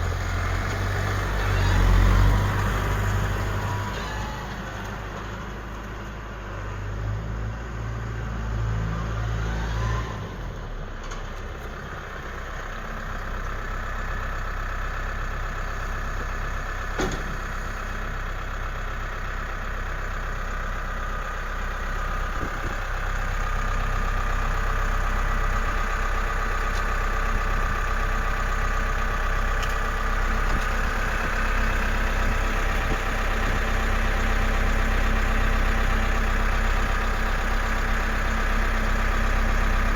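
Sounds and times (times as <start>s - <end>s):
tractor diesel engine running: 0.0s - 8.5s, 10.2s - 39.9s.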